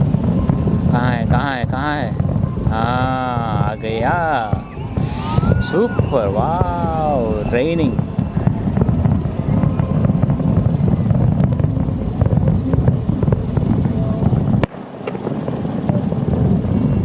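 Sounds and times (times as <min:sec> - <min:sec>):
distant fireworks booming: 0:00.0 - 0:17.0
fireworks crackling: 0:00.0 - 0:17.0.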